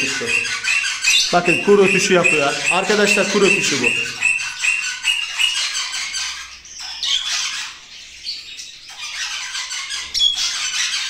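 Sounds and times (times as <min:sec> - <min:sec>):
parrots squawking: 0:00.0 - 0:11.0.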